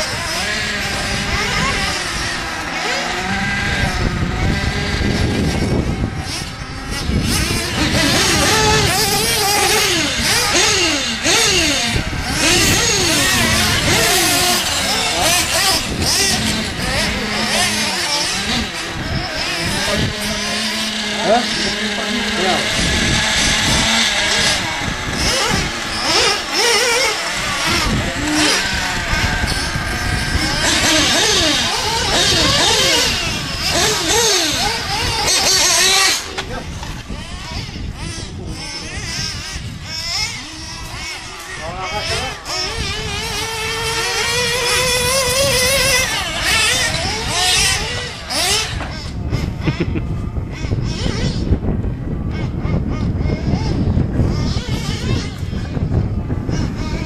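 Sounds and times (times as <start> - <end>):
nitro engine revving: 0.0 - 57.0.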